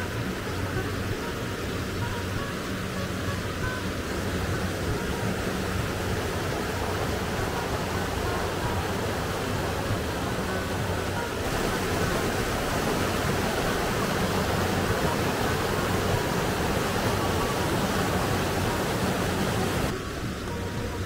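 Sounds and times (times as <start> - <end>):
stream splashing over rocks: 0.0 - 21.0.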